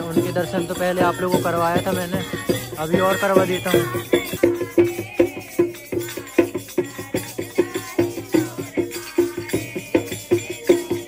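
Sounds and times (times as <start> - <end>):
music with percussive beat: 0.0 - 11.0.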